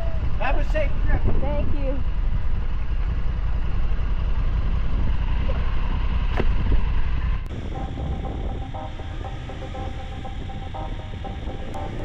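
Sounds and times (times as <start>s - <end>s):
vehicle engine rumble: 0.0s - 12.0s
wind noise: 0.2s - 2.8s, 4.5s - 12.0s.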